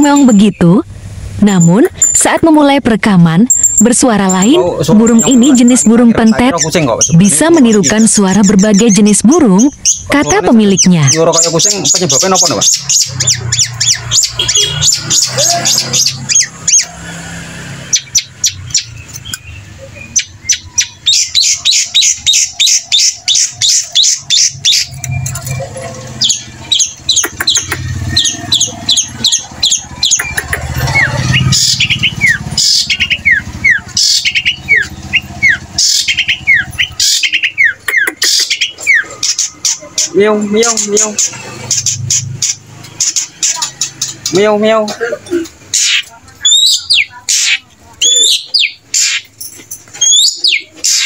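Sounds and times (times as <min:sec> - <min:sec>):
bird singing high chirps: 0:03.4 - 0:17.0, 0:17.8 - 0:44.5, 0:45.7 - 0:51.0.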